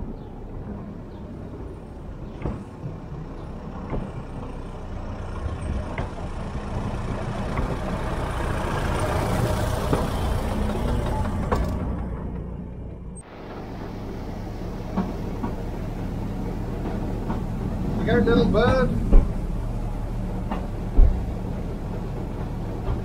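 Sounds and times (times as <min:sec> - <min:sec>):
rail car engine passing: 0:00.0 - 0:23.0.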